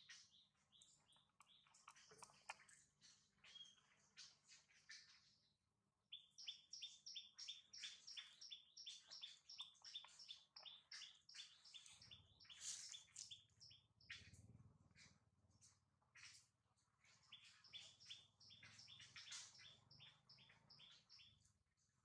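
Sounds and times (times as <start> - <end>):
small bird chirping: 0.0 - 22.0.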